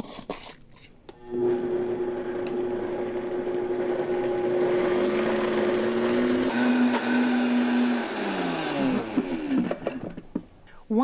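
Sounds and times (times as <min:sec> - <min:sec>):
blender motor running: 0:01.2 - 0:10.4.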